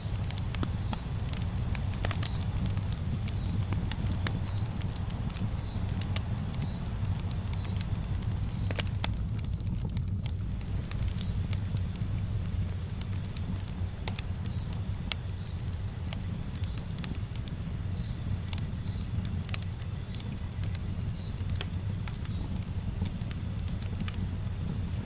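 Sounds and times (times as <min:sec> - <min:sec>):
campfire flame rumble: 0:00.0 - 0:25.0
wood crackling and popping: 0:00.0 - 0:25.0.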